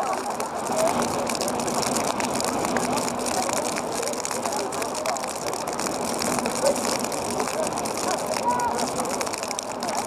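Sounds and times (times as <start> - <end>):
outdoor background noise: 0.0 - 10.0.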